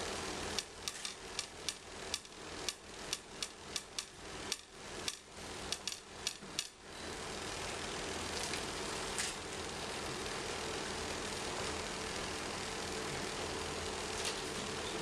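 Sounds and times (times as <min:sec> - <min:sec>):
cotton candy machine motor hum: 0:00.0 - 0:15.0.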